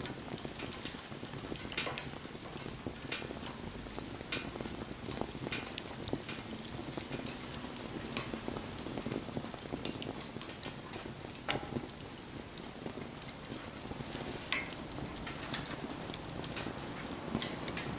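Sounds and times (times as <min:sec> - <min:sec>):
campfire crackling and popping: 0:00.0 - 0:17.9
fire hiss: 0:00.0 - 0:17.9.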